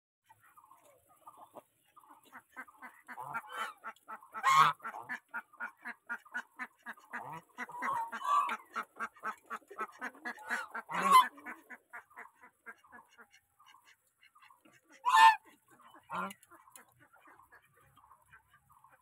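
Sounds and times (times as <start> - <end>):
geese bills clicking and gobbling: 0.2 - 19.0
geese honking: 0.3 - 19.0.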